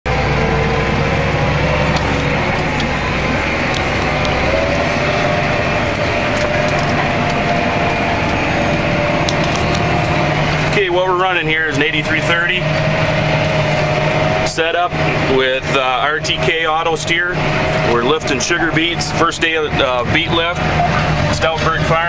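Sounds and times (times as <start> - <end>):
tractor and harvester running: 0.0 - 22.0
steady machine whine: 0.1 - 22.0.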